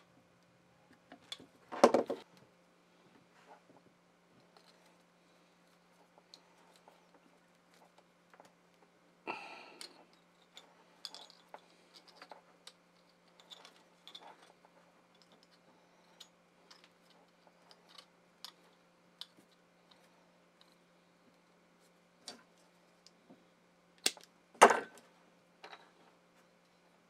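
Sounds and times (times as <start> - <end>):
faint low hum: 0.0 - 27.0
wires clicking and rustling: 0.9 - 27.0.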